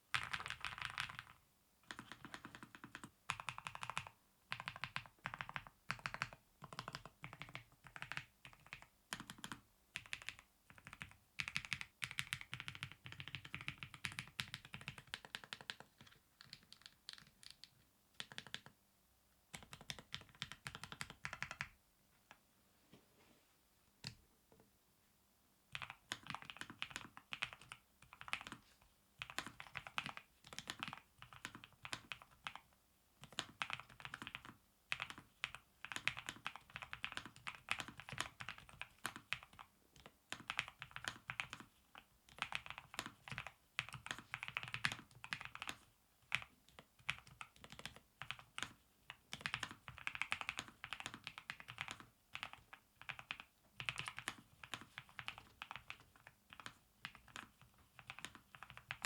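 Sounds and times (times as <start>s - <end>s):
mechanical keyboard typing: 0.1s - 18.8s, 19.5s - 21.7s, 25.7s - 28.6s, 29.2s - 59.0s.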